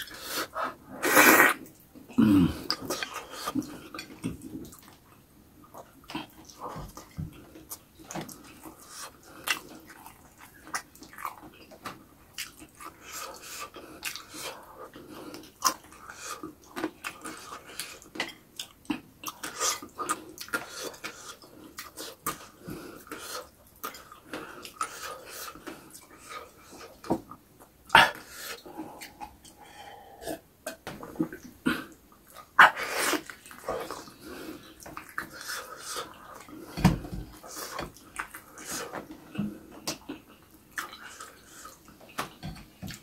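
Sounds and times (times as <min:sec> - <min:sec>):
wet chewing and lip smacks: 0:02.6 - 0:29.6, 0:32.1 - 0:43.0.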